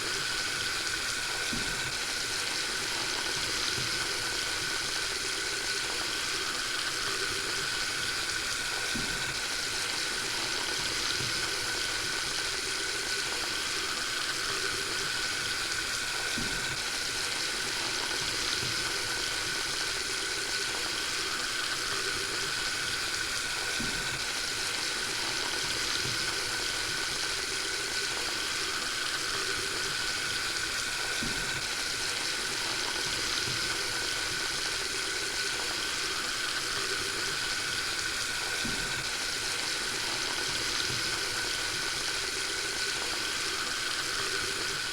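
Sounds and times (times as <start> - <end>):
water running from faucet: 0.0 - 44.9.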